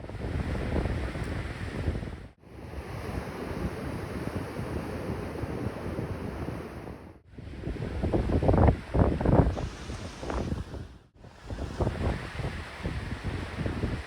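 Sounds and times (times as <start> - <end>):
sea waves washing on shore: 0.0 - 14.0
wind buffeting microphone: 0.0 - 14.0.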